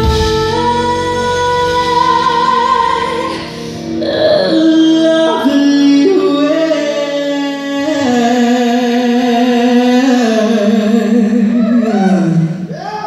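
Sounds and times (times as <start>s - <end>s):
woman singing into a microphone: 0.0s - 12.7s.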